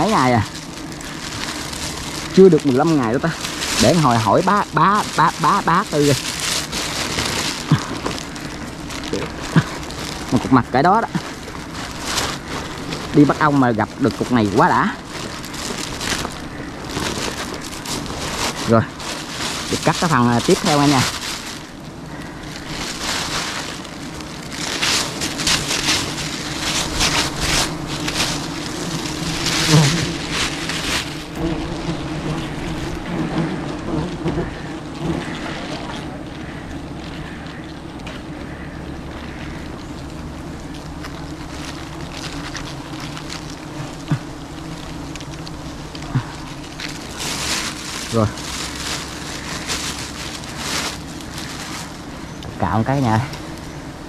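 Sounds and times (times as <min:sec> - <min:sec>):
bees humming: 0:00.0 - 0:54.0
plastic bag rustling: 0:00.0 - 0:54.0.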